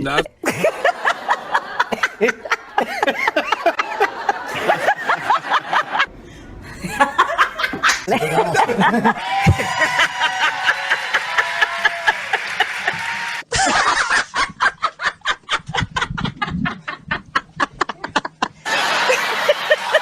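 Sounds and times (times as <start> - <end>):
people laughing: 0.1 - 6.1, 6.7 - 20.0.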